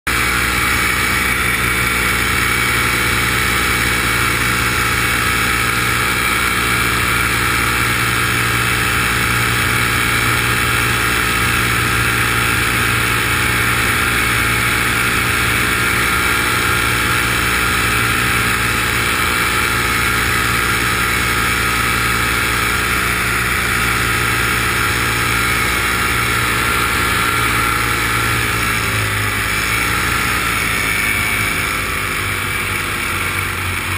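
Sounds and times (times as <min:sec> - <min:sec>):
drone propellers humming: 0:00.1 - 0:33.9.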